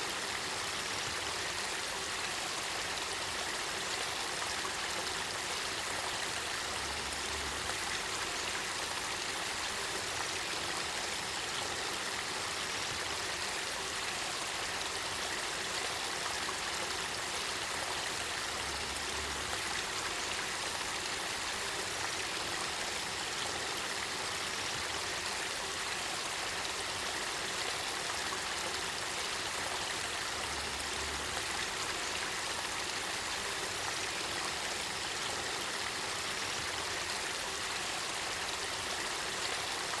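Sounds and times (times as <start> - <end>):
stream water rushing: 0.0 - 40.0.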